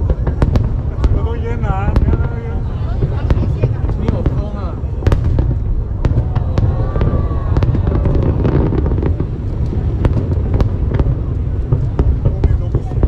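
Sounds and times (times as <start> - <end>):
fireworks booming rumble: 0.0 - 13.0
fireworks cracks and pops: 0.0 - 13.0.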